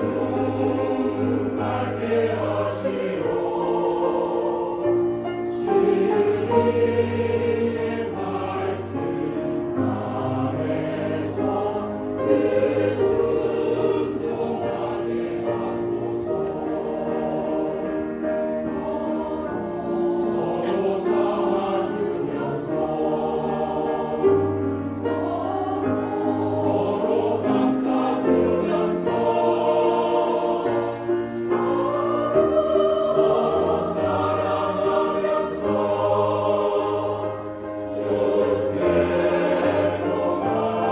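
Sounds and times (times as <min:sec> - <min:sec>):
mixed choir singing: 0:00.0 - 0:40.9
piano: 0:00.0 - 0:40.9.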